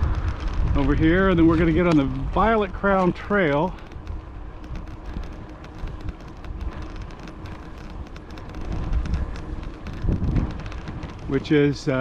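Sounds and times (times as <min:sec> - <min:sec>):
bicycle clicks and rattles: 0:00.0 - 0:12.0
wind buffeting microphone: 0:00.0 - 0:12.0.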